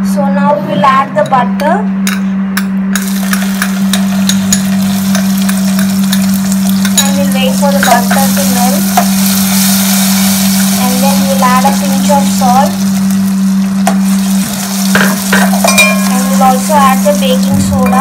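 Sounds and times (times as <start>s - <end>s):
low hum: 0.0s - 18.0s
butter sizzling in a pan: 3.0s - 17.6s.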